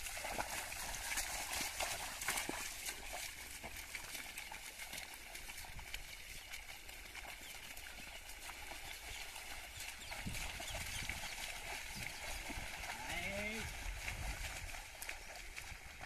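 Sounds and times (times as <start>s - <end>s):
hooves pulling through wet mud: 0.0s - 16.0s
outdoor background noise: 0.0s - 16.0s
water splashing: 0.0s - 16.0s.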